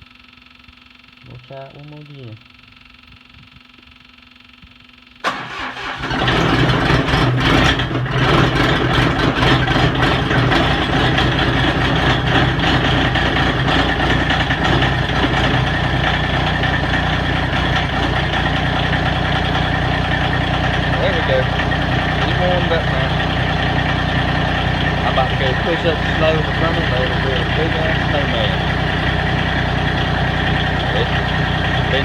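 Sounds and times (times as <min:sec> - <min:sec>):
diesel engine cranking and starting: 0:05.2 - 0:32.0
diesel engine running: 0:05.2 - 0:32.0.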